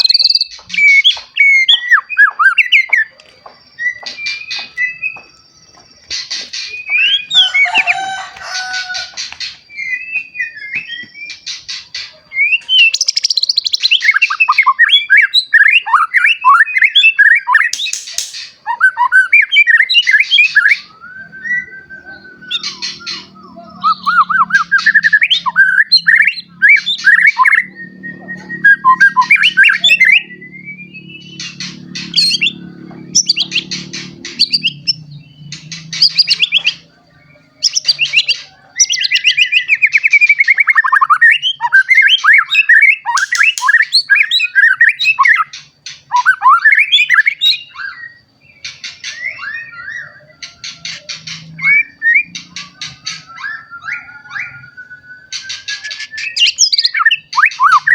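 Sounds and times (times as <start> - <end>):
bird singing whistled song: 0.0 - 57.9.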